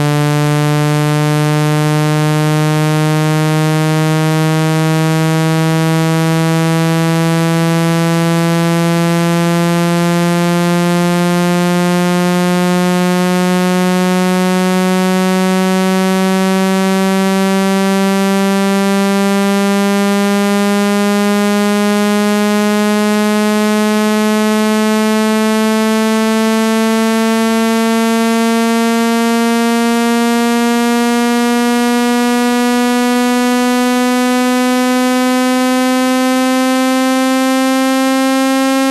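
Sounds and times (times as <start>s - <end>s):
buzzing tone rising in pitch: 0.0s - 38.9s.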